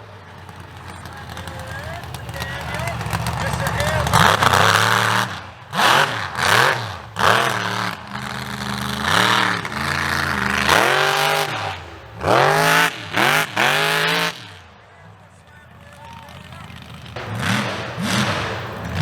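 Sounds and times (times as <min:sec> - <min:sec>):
truck engine revving hard: 0:00.0 - 0:14.8, 0:15.7 - 0:19.0.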